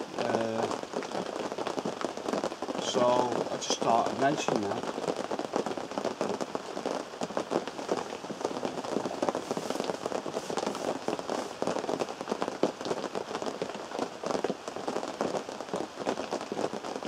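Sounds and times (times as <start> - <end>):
rain on canvas tent: 0.0 - 17.0.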